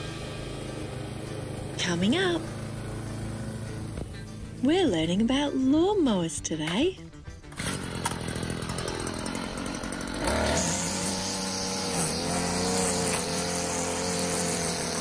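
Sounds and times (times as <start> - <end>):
small petrol engine running: 0.0 - 4.6, 7.5 - 15.0.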